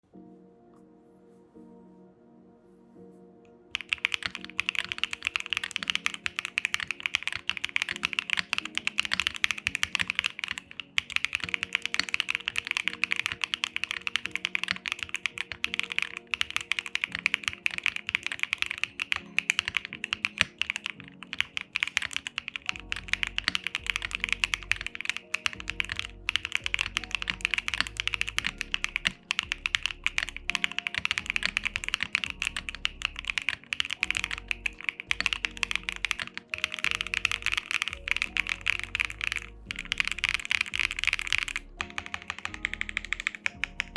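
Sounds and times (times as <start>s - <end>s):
background music: 0.0s - 43.9s
mechanical keyboard typing: 3.7s - 43.9s.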